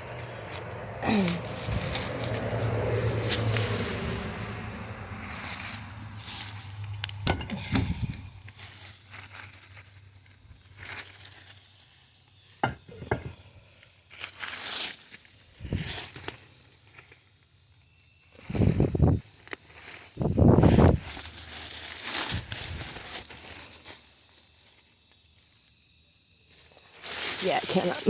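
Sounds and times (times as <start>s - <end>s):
rustling and scraping in dirt: 0.0s - 28.0s.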